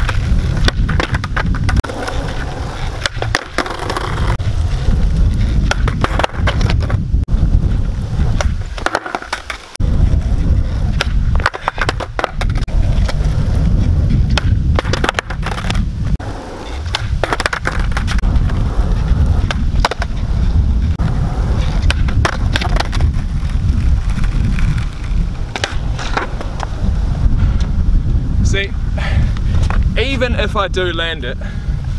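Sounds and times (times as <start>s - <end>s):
skateboard deck clacking: 0.0s - 7.0s, 8.2s - 26.7s
skateboard wheels rolling on asphalt: 0.0s - 31.9s.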